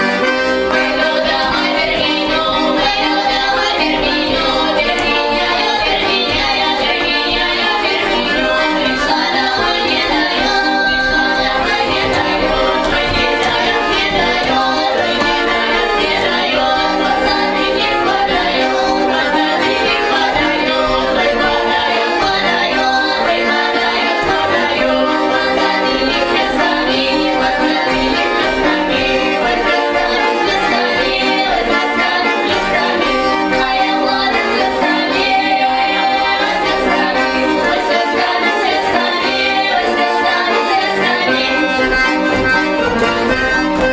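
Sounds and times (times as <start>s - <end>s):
women singing in harmony: 0.7s - 42.1s.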